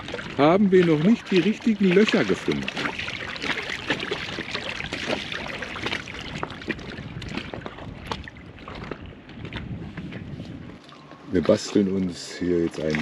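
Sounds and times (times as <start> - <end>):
water sloshing around wading legs: 0.0 - 13.0.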